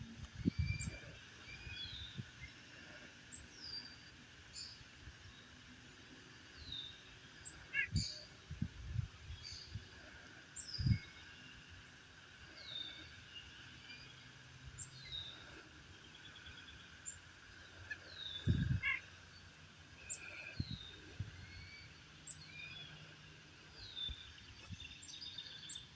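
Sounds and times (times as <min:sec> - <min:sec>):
songbirds chirping: 0:00.0 - 0:25.9.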